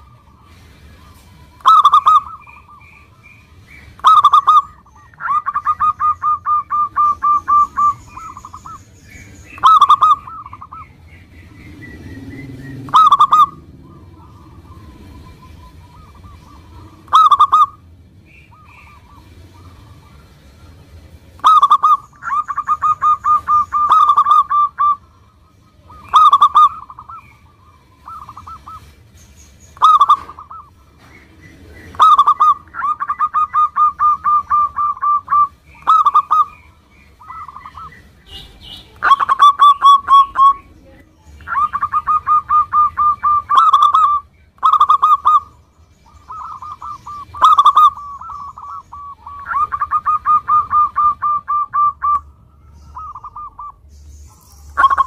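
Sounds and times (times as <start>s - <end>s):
dove cooing: 0.0s - 29.1s, 29.7s - 53.9s, 54.5s - 55.0s.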